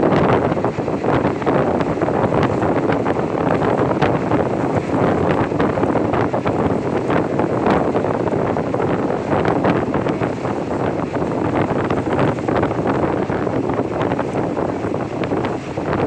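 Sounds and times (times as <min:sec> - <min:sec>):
train rumbling: 0:00.0 - 0:16.0
wind on microphone: 0:00.0 - 0:16.0.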